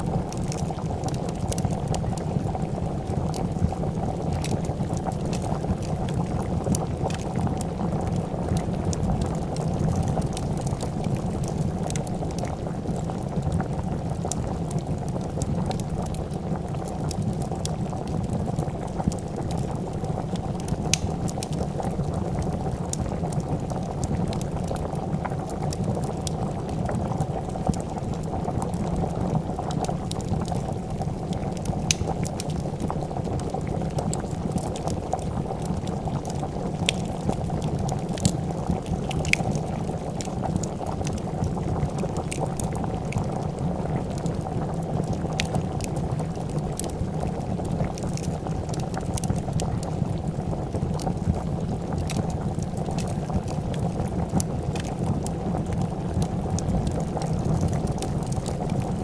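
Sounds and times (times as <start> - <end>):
soup bubbling at a boil: 0.0 - 59.0
wood fire crackling: 0.0 - 59.0.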